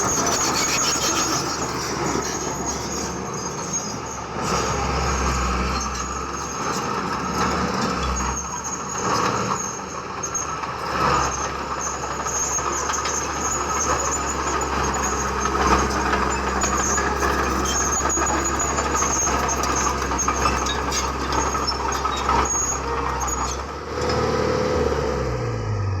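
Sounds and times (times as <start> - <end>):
high metallic squealing: 0.0 - 23.7
heavy diesel machinery running: 0.0 - 26.0.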